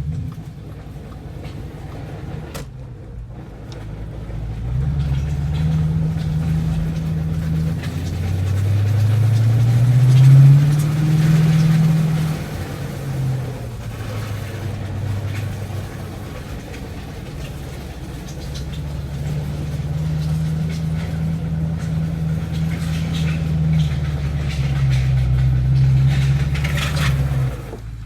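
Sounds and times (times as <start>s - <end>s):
car engine under throttle: 0.0s - 28.0s
flywheel chatter: 4.8s - 28.0s.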